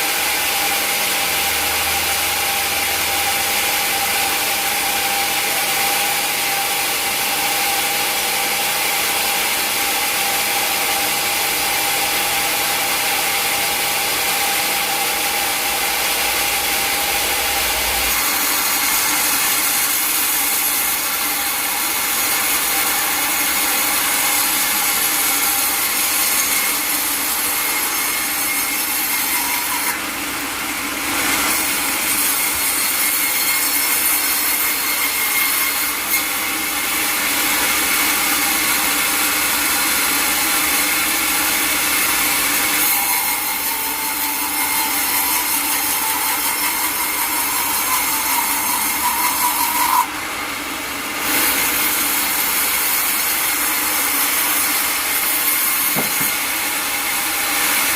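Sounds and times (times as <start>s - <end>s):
sawmill blade cutting log: 0.0s - 57.9s.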